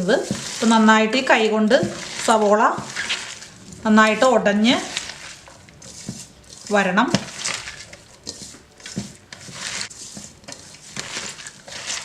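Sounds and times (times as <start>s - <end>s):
hands squishing onions in a pot: 0.0s - 12.0s.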